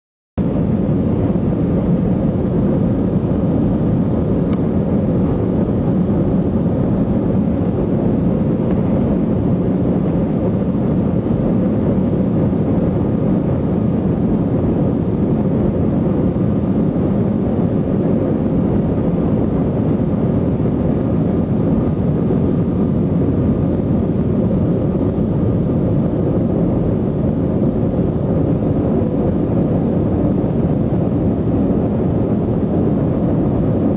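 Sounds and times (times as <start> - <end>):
airliner cabin noise: 0.4 - 33.9.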